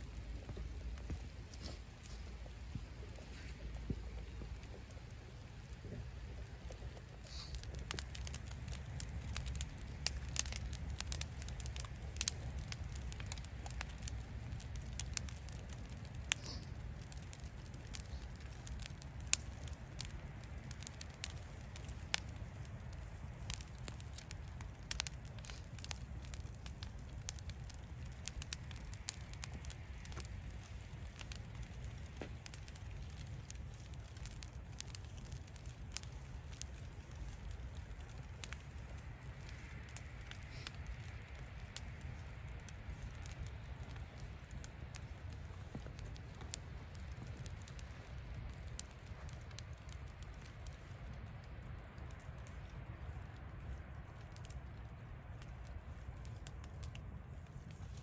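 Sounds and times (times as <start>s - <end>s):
low fire rumble: 0.0s - 58.0s
wood fire crackling: 0.0s - 58.0s.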